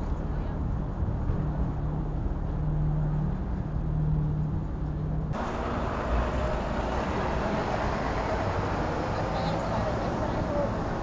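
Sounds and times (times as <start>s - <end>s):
rush of passing cars: 0.0s - 11.0s
vehicle engine humming: 1.5s - 11.0s.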